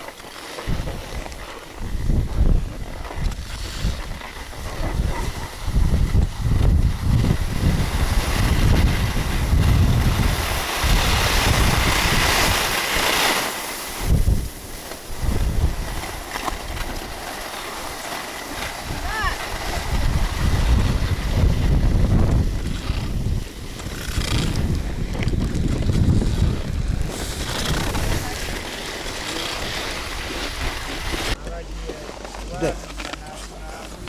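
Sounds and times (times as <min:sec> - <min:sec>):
wind buffeting microphone: 0:00.7 - 0:13.0, 0:13.9 - 0:17.2, 0:18.6 - 0:31.4.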